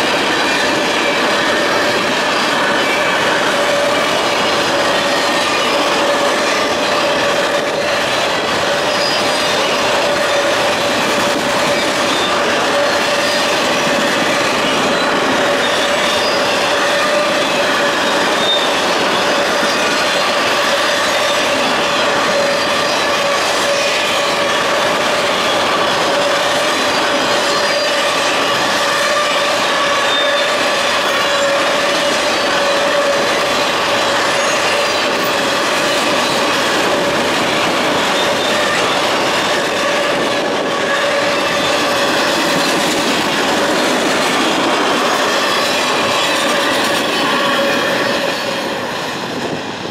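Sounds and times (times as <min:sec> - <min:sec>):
high wheel squeal: 0:00.0 - 0:49.5
train wheels rolling on rails: 0:00.0 - 0:49.9.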